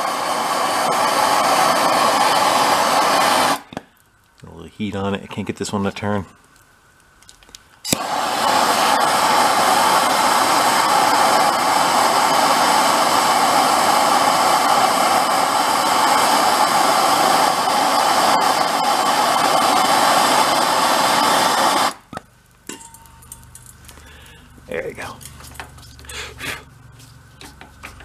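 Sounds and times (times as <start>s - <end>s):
torch flame hissing: 0.0s - 4.4s, 5.4s - 22.1s, 23.4s - 28.0s.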